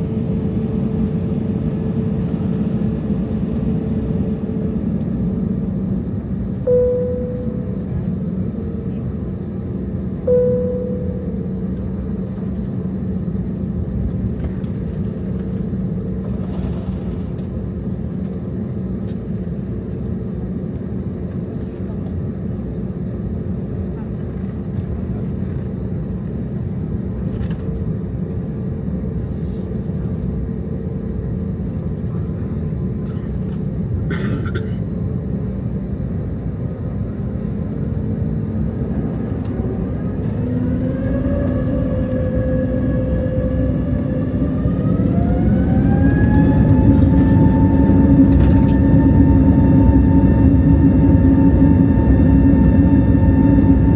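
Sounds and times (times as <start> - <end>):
jet engines rumbling and whining: 0.0 - 53.9.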